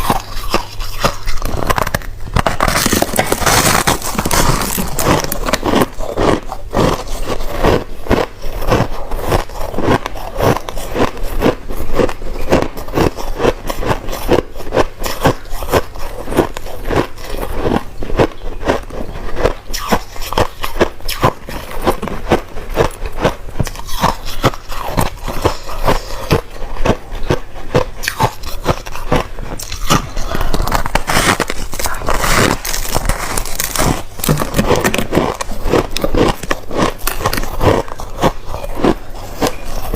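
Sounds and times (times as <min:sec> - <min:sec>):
crushed ice being chewed: 0:00.0 - 0:39.9.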